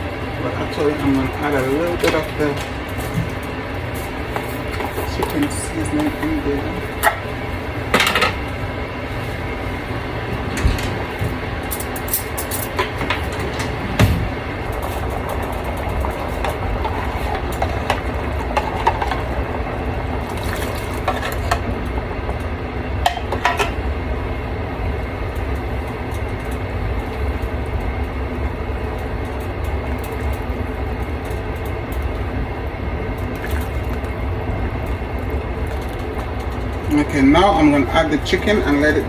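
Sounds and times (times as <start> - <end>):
soup simmering and bubbling: 0.0 - 10.4, 12.7 - 39.0.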